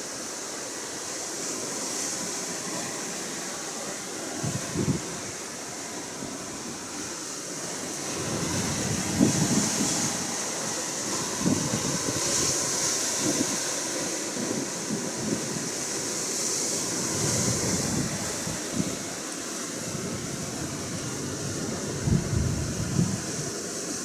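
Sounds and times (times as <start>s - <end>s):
ocean surf washing: 0.0s - 24.0s
wind gusting on microphone: 4.2s - 24.0s.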